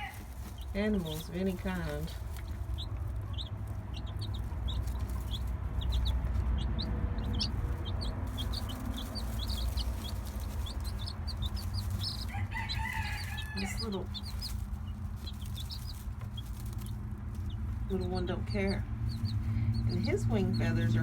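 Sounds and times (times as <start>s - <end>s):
chicks peeping: 0.0s - 21.0s
steady low rumble: 0.0s - 21.0s.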